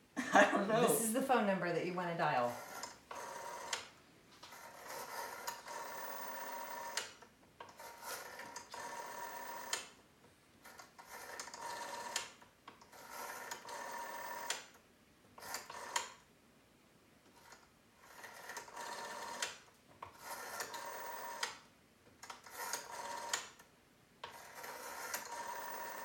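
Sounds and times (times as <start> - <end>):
rotary phone dial whirring: 2.5 - 10.0, 10.6 - 14.7, 15.4 - 16.2, 17.3 - 26.0.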